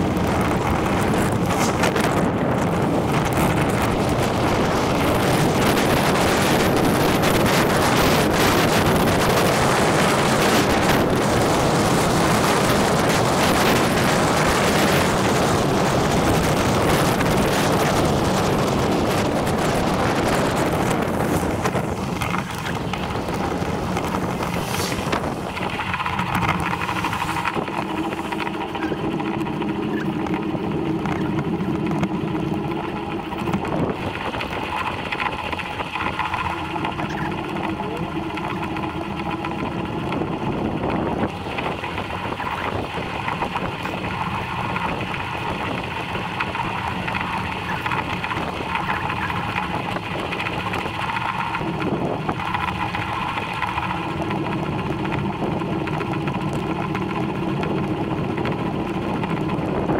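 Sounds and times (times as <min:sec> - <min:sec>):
steady hum with tones: 0:00.0 - 0:59.9
wind rushing over microphone: 0:00.0 - 0:59.9.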